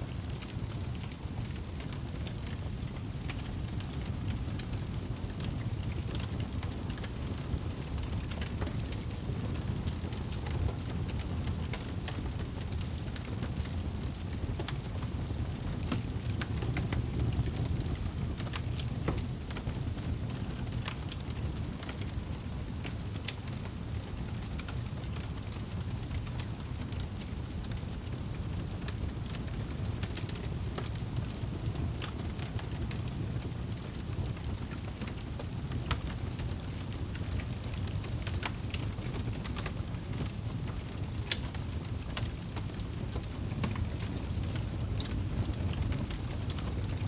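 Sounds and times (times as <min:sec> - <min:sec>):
fire flames rumbling: 0:00.0 - 0:47.0
firewood crackling and popping: 0:00.0 - 0:47.0.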